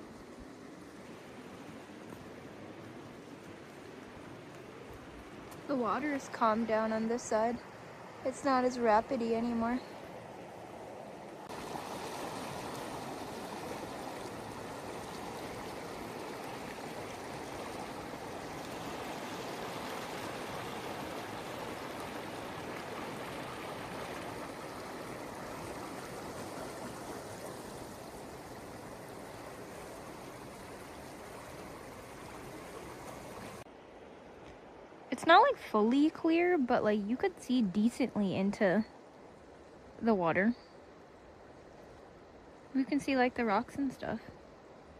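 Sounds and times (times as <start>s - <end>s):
river water rushing: 0.0s - 36.6s.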